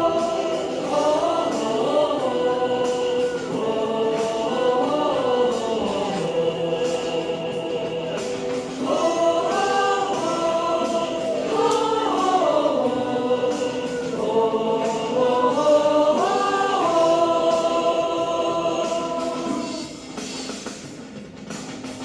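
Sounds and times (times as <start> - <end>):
choir singing long notes: 0.0 - 20.3
backing music: 0.0 - 22.0.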